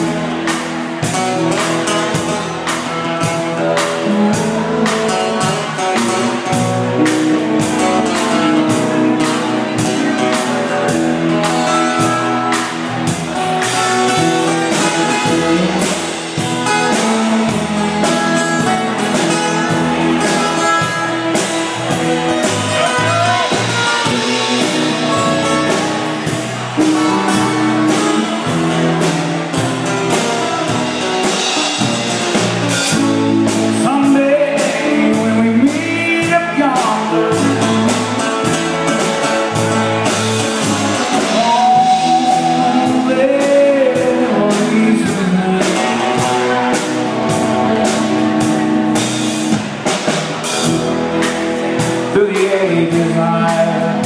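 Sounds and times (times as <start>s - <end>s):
lead guitar bending notes: 0.0s - 54.0s
live rock band playing: 0.0s - 54.0s.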